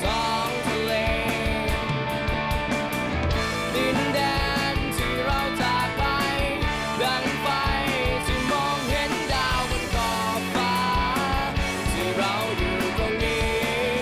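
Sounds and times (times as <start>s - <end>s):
rock band song: 0.0s - 14.0s.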